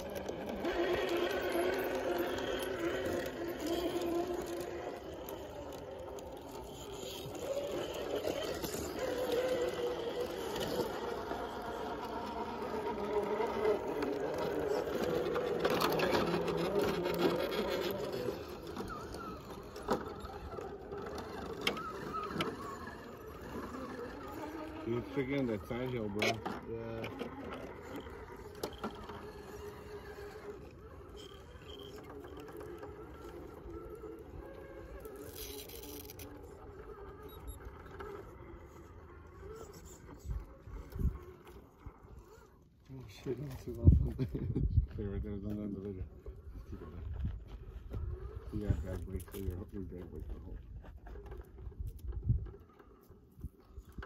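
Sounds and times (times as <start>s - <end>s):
truck scraping on rock: 0.0s - 44.0s, 45.2s - 54.0s
electric motors whining: 0.0s - 44.2s, 45.0s - 54.0s.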